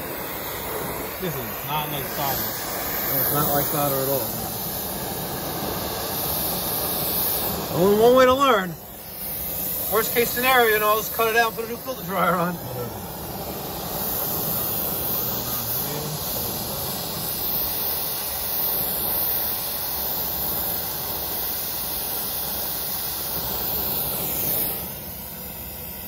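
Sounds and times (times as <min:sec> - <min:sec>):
torch flame burning: 0:00.0 - 0:26.0.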